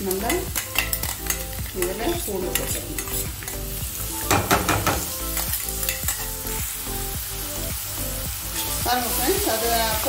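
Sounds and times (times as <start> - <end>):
paste sizzling in hot oil: 0.0 - 10.0.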